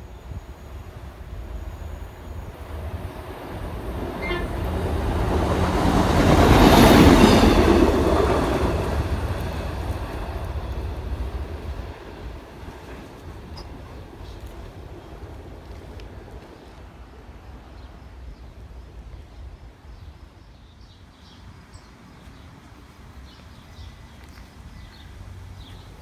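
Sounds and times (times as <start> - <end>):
trolley car passing on rails: 0.0 - 26.0.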